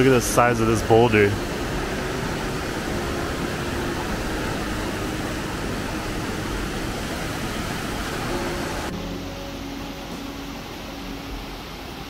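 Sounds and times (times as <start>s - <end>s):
river water rushing through gorge: 0.0s - 12.0s.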